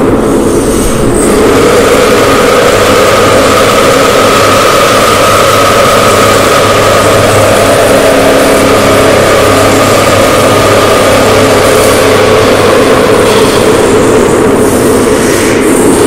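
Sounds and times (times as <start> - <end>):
harsh distorted noise music: 0.0 - 16.0
low hum: 0.0 - 16.0.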